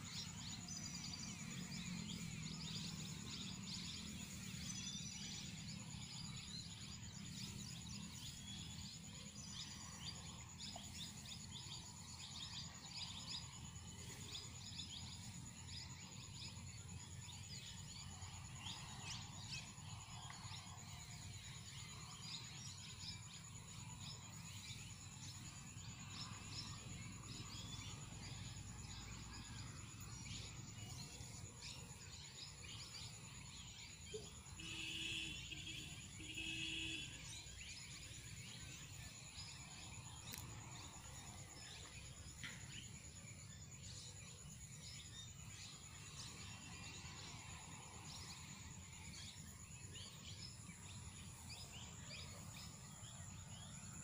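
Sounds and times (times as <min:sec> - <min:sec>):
faint bird chirps: 0:00.0 - 0:54.0.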